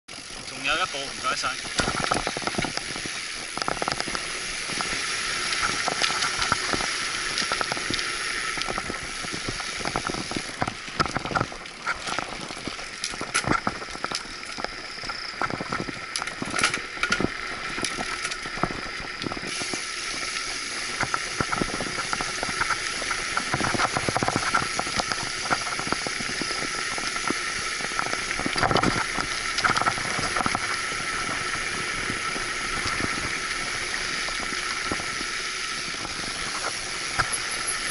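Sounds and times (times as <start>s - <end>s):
bike tyres rolling on concrete: 0.1s - 37.9s
bike clicks and knocks: 1.6s - 33.0s, 34.0s - 37.9s.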